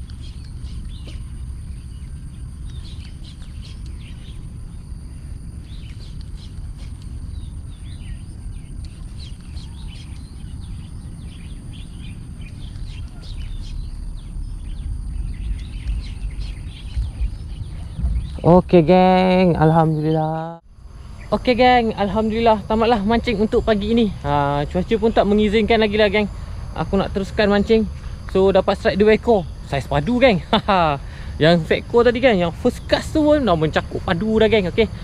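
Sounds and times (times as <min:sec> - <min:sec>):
birds chirping: 0:00.0 - 0:35.0
low outdoor rumble: 0:00.0 - 0:35.0.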